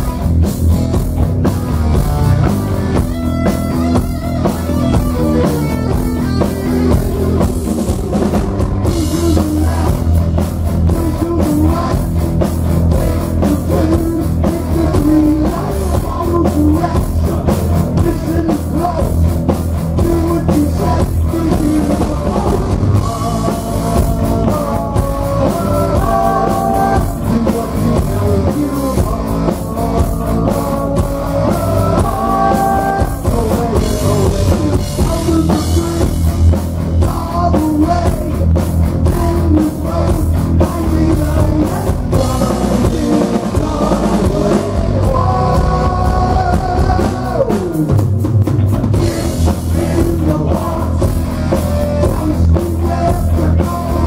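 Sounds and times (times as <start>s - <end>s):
drum kit: 0.0s - 54.0s
electric guitar: 0.0s - 54.0s
man singing: 2.3s - 54.0s.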